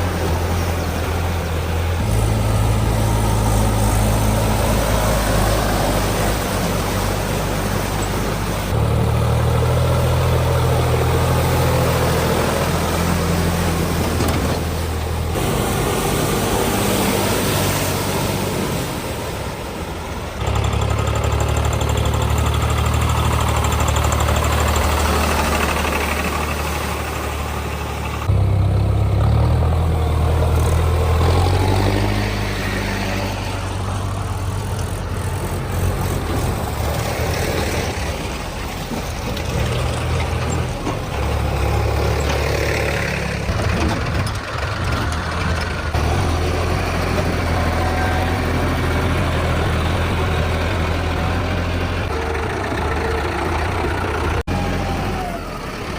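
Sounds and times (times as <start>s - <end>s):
diesel tractor engines running hard: 0.0s - 55.9s.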